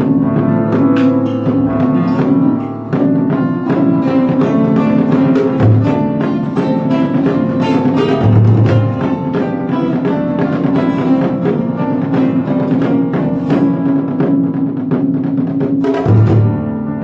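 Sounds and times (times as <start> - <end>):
deep taiko drum strokes: 0.0 - 17.0
guitar and piano ensemble music: 0.0 - 17.0.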